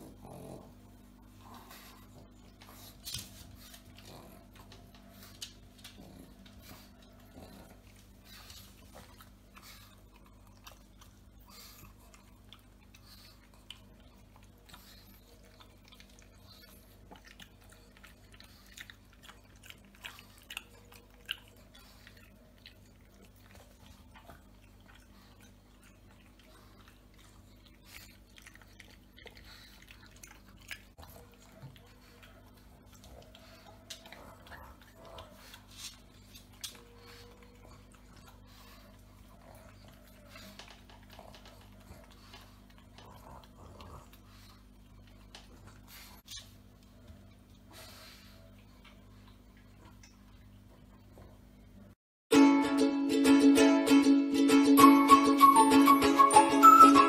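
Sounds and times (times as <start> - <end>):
people chewing: 1.4 - 51.4.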